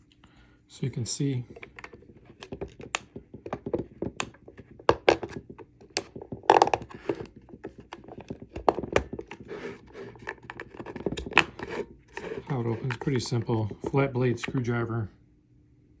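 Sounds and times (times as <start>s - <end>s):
clicks and knocks on plastic: 1.5s - 14.8s.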